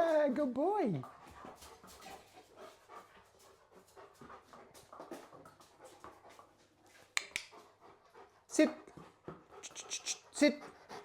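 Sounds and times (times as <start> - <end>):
dog panting: 0.8 - 11.0.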